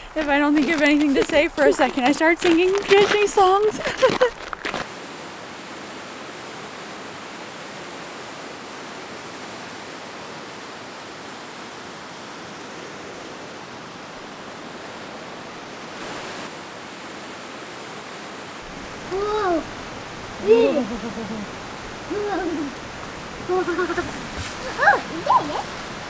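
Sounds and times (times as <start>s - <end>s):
fast-flowing river rushing: 0.0s - 26.0s.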